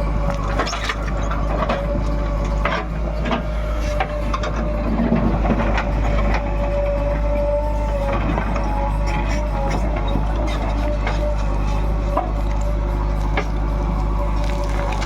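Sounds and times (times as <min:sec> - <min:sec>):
diesel engine whining: 0:00.0 - 0:15.0.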